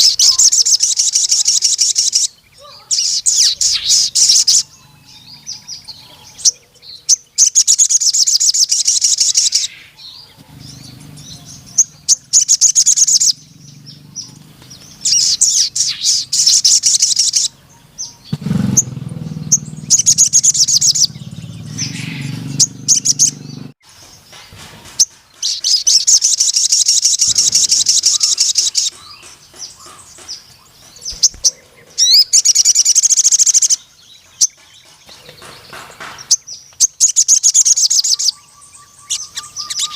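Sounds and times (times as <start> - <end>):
bird shrill trilling song: 0.0 - 39.9.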